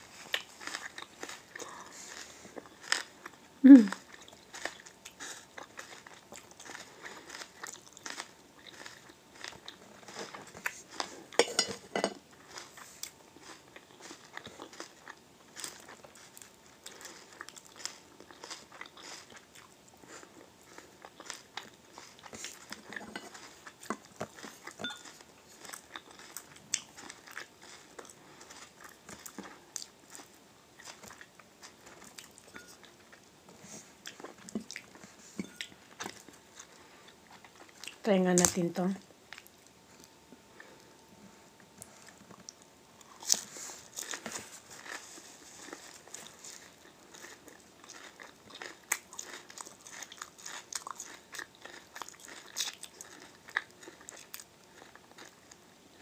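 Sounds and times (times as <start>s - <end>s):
biting and chewing crunches: 0.1s - 38.6s, 41.8s - 56.0s.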